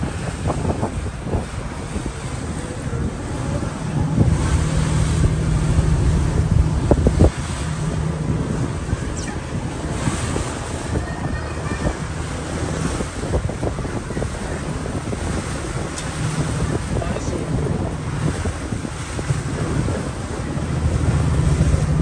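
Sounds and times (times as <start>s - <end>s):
low boat engine drone: 0.0s - 22.0s
water rushing past hull: 0.0s - 22.0s
wind buffeting microphone: 0.0s - 22.0s.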